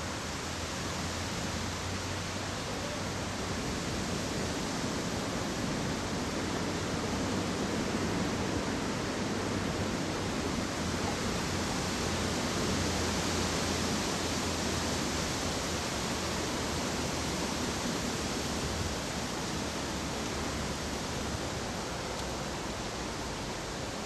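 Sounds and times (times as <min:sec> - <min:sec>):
steady hiss of noise: 0:00.0 - 0:24.0.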